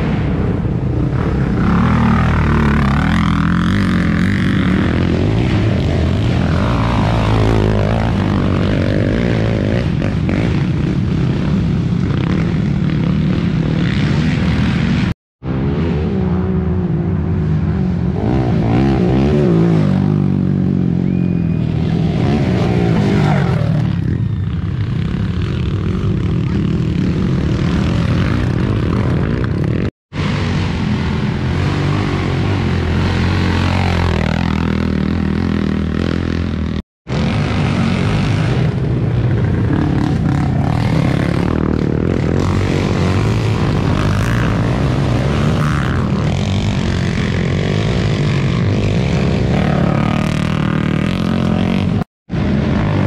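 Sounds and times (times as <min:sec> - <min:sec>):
quad engines revving: 0:01.0 - 0:53.0.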